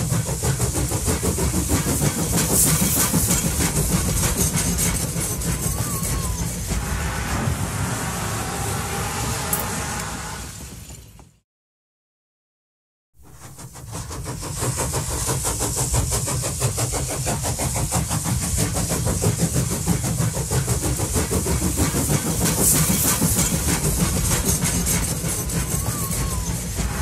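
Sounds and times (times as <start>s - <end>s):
rhythmic pulsing of train wheels: 0.0s - 11.4s, 13.2s - 27.0s
train running: 0.0s - 11.4s, 13.2s - 27.0s.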